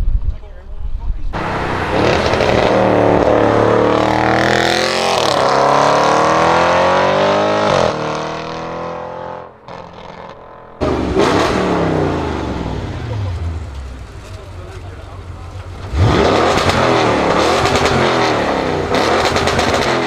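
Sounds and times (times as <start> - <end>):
car engine accelerating hard: 1.4 - 9.4, 10.8 - 20.0.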